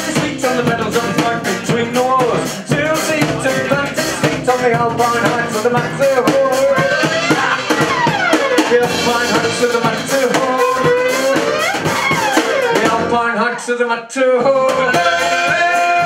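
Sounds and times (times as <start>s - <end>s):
drum kit: 0.0s - 13.7s, 14.3s - 16.0s
guitar: 0.0s - 16.0s
person singing: 0.0s - 16.0s.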